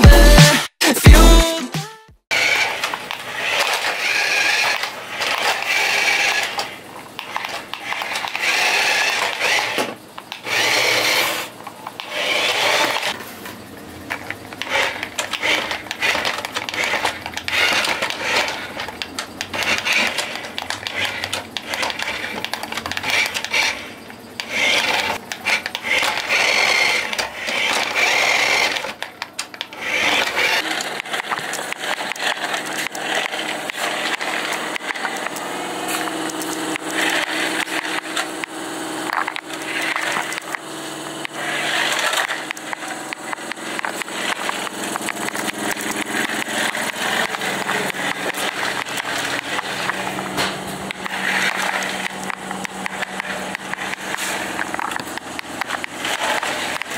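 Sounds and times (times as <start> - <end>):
toy car motor whirring: 2.3 - 56.9.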